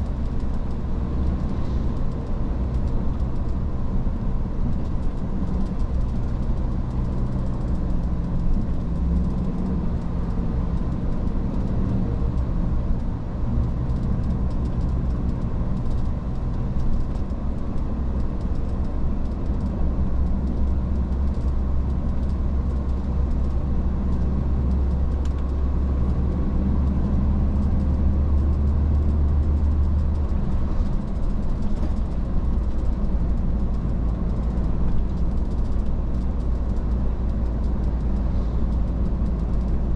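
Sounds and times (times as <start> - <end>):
truck engine hum: 0.0 - 39.9
tyre and road noise: 0.0 - 39.9.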